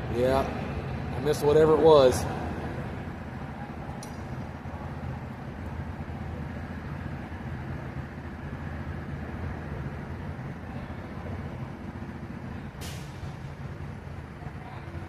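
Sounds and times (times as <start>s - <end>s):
heavy equipment engine rumbling: 0.0s - 15.0s.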